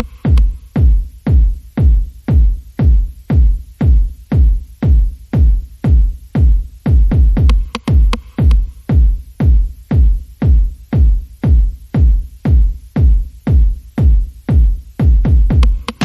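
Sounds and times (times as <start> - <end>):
electronic music with kick drum: 0.0 - 16.0.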